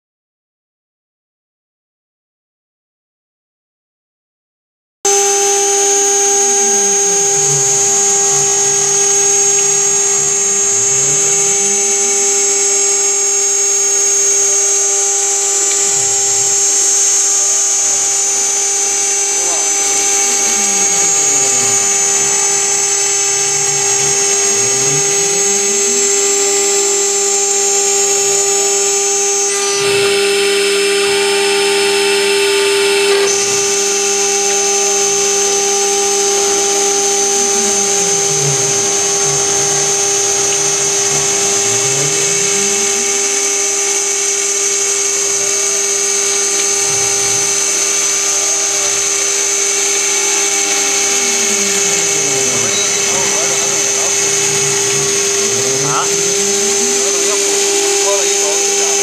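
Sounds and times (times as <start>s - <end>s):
end mill cutting metal: 5.1s - 59.0s
router spindle whining: 5.1s - 59.0s.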